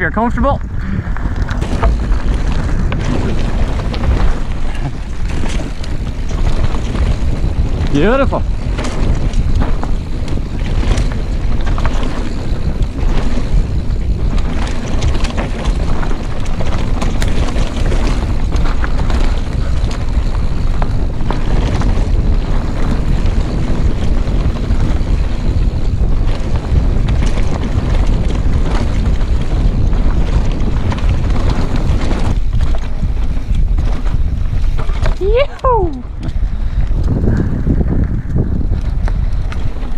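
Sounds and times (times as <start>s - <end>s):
bike rattles and knocks: 0.0s - 39.9s
wind noise on microphone: 0.0s - 39.9s
tyres crunching over stones: 1.1s - 37.4s.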